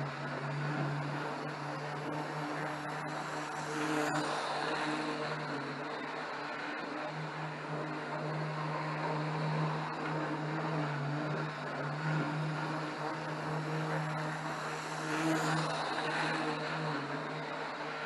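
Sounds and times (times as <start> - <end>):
electric motor hum: 0.0 - 18.0.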